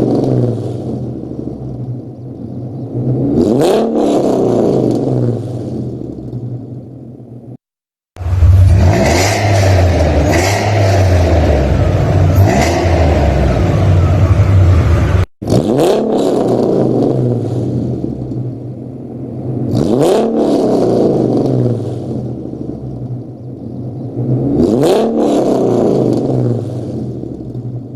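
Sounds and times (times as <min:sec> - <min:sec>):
car engine revving: 0:00.0 - 0:06.9, 0:08.2 - 0:27.9.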